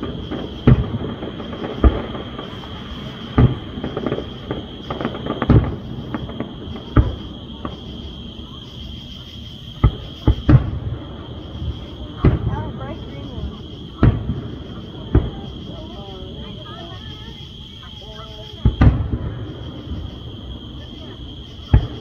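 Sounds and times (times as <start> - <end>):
small firework pops: 0.0 - 17.4, 18.4 - 22.0
firework booms: 0.0 - 22.0.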